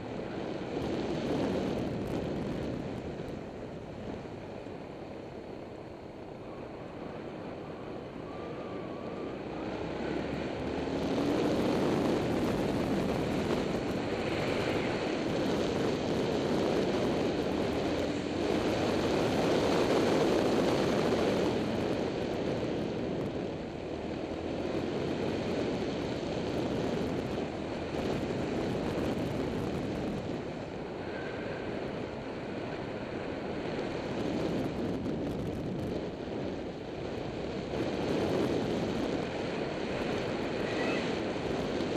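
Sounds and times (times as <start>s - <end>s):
wind on microphone: 0.0s - 41.9s.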